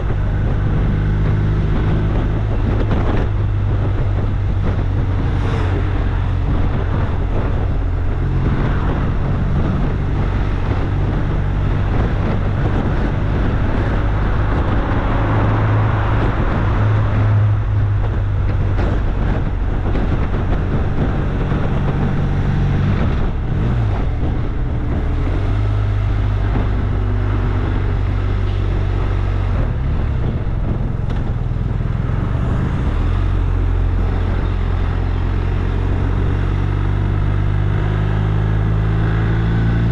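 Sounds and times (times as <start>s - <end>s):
engine humming steadily: 0.0s - 39.9s
rough rushing noise: 0.0s - 39.9s.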